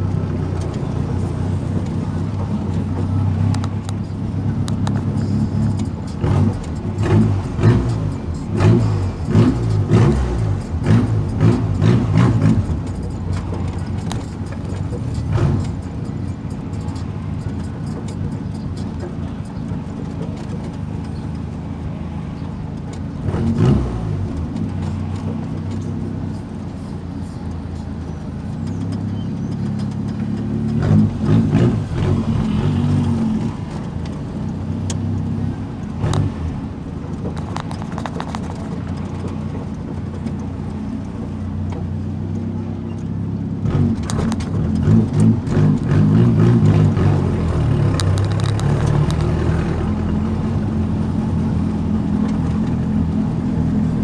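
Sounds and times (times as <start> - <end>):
car exhaust rumbling and revving: 0.0 - 54.0.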